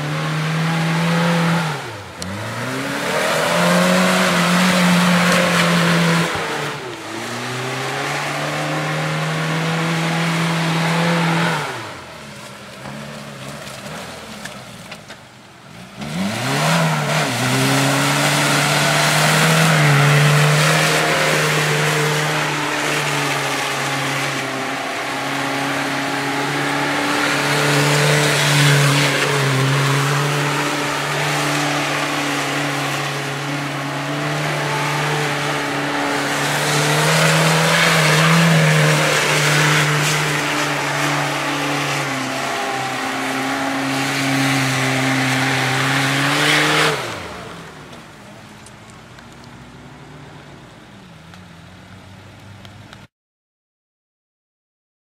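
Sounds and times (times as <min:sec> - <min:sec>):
engine revving high: 0:00.0 - 0:14.3, 0:15.8 - 0:48.0
tyres spinning in mud: 0:00.0 - 0:50.7.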